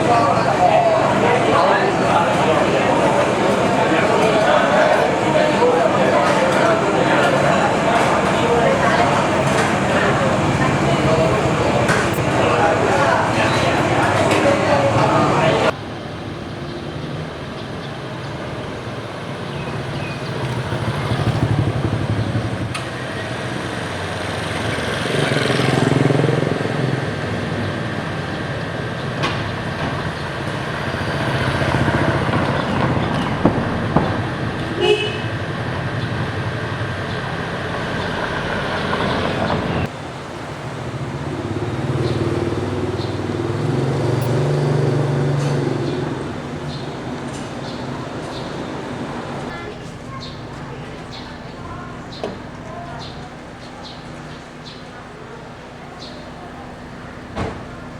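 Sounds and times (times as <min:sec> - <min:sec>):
cars passing: 0:00.0 - 0:57.9
motorcycles passing: 0:00.0 - 0:57.9.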